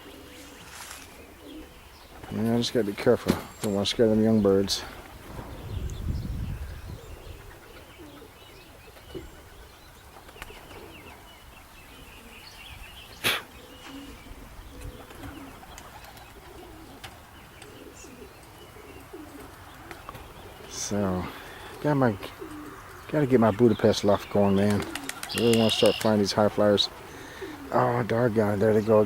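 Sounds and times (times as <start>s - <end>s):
pigeons cooing softly: 0.0s - 29.0s.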